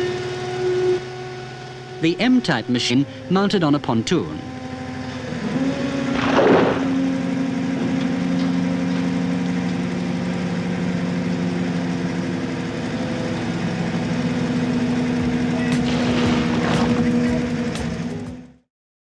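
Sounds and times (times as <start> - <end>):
dredger engine humming: 0.0 - 18.6.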